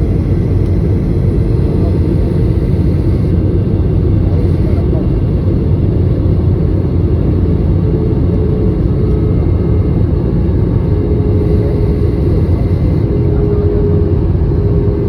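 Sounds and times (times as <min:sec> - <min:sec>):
aircraft low rumble: 0:00.0 - 0:15.0
faint higher hum: 0:00.0 - 0:15.0.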